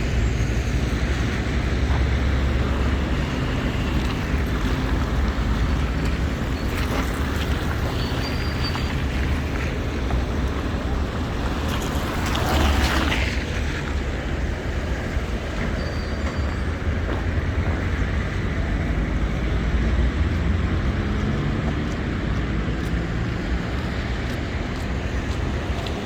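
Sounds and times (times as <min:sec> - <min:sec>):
traffic on wet roads: 0:00.0 - 0:26.0.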